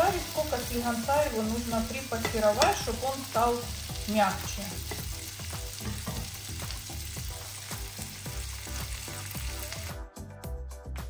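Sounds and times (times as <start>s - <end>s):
peppers sizzling in a frying pan: 0.0s - 10.0s.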